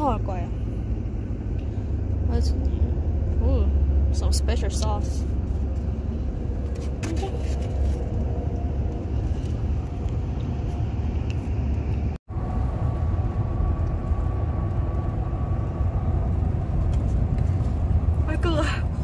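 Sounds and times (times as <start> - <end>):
road and engine noise in car: 0.0 - 19.0.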